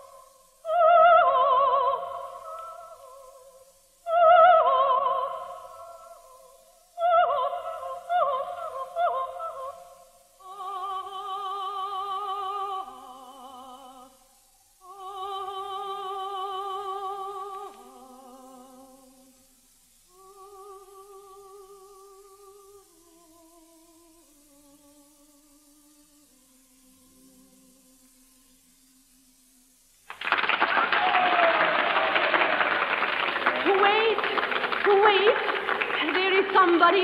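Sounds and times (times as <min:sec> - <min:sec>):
soprano singing opera: 0:00.0 - 0:19.5, 0:20.1 - 0:28.6, 0:32.9 - 0:37.0.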